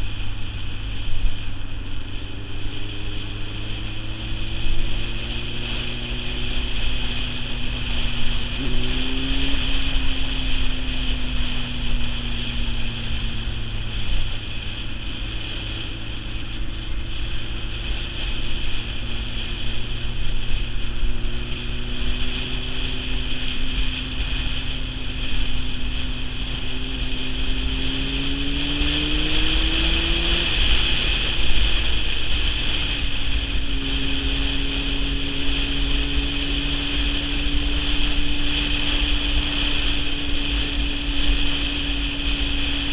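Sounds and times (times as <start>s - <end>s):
motorcycle engine revving: 0.0s - 42.9s
wind noise on microphone: 0.0s - 42.9s.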